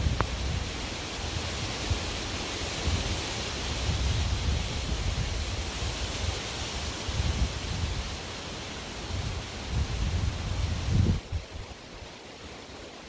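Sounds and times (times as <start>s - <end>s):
strong wind blowing: 0.0s - 12.1s.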